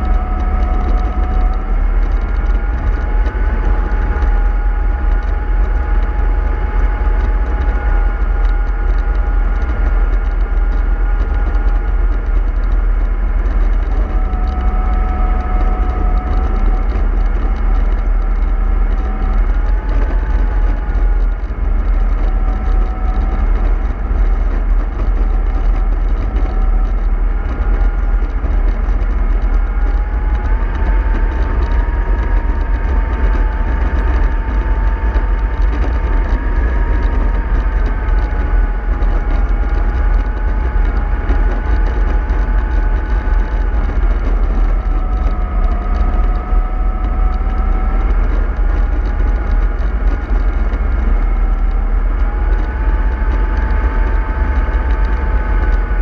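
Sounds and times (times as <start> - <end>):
model bus motor whine: 0.0 - 56.0.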